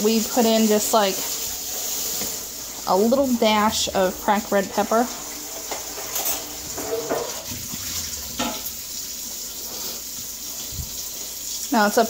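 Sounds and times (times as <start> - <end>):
pot simmering and bubbling: 0.0 - 12.0.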